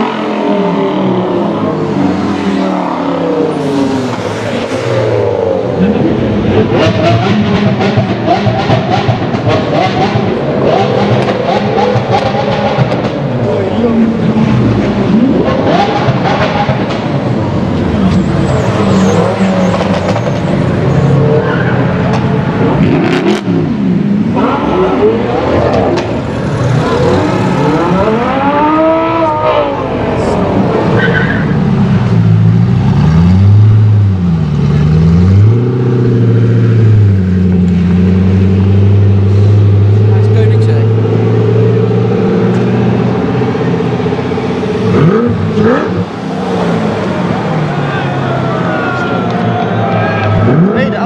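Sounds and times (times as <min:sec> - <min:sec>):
sports car engines revving in tunnel: 0:00.0 - 0:51.0.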